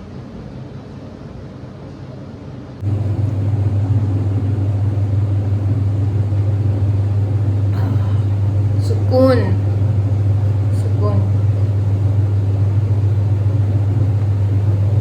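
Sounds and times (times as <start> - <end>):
machine humming: 2.8 - 15.0.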